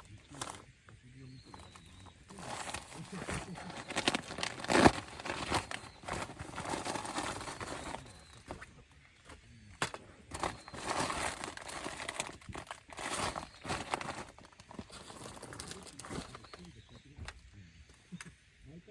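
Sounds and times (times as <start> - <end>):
bags and packaging crinkling: 0.0 - 17.4.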